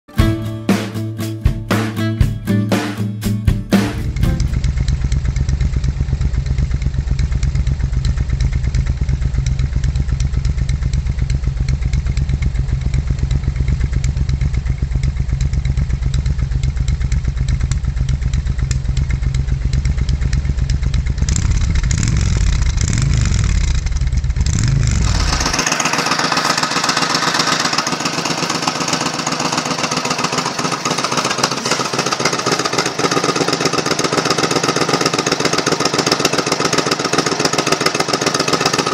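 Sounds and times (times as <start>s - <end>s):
motorcycle engine idling and revving: 2.8s - 38.9s.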